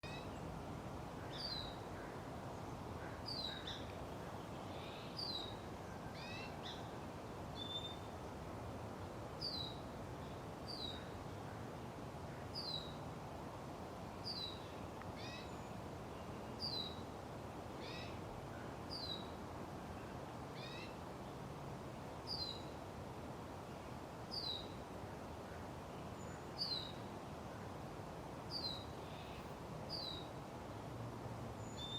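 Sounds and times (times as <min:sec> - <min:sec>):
background hiss: 0:00.0 - 0:31.9.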